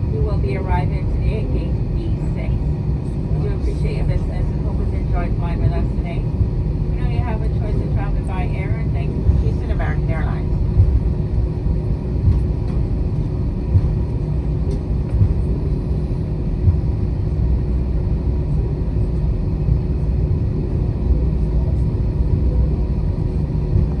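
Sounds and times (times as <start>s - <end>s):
aircraft cabin rumble: 0.0s - 24.0s
faint constant hum: 0.0s - 24.0s.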